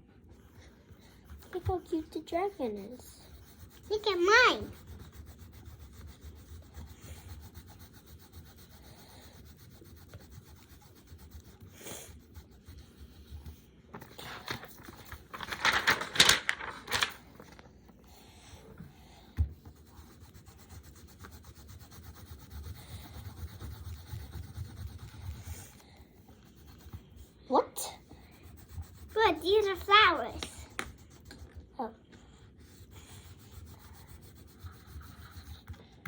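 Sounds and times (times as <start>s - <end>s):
pencils scratching on paper: 0.0s - 36.0s.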